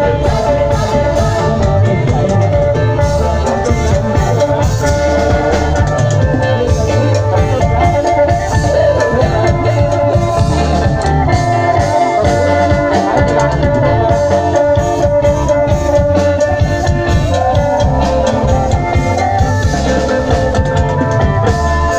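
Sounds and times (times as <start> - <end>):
drums: 0.0 - 21.9
electric bass guitar: 0.0 - 21.9
loud amplified live band: 0.0 - 21.9.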